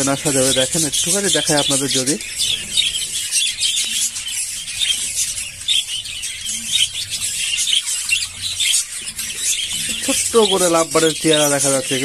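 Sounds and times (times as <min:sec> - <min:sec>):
parrots twittering: 0:00.0 - 0:12.0.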